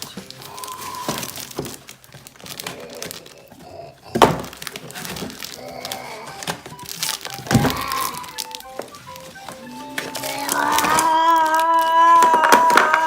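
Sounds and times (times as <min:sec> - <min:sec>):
rustling and handling: 0:00.0 - 0:13.0.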